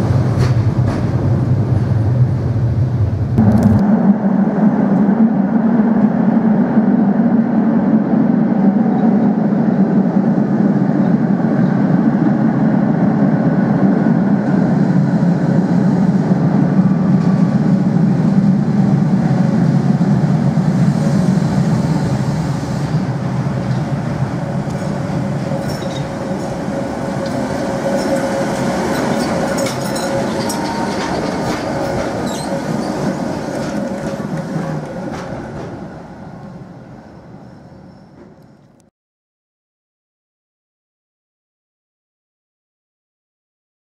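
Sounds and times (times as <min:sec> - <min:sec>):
tram rumbling in tunnel: 0:00.0 - 0:38.9.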